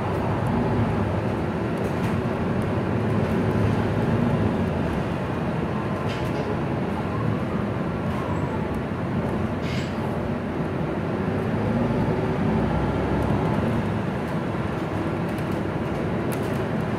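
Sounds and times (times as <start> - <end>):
bus diesel engine running: 0.0 - 16.9
road and drivetrain noise: 0.0 - 16.9.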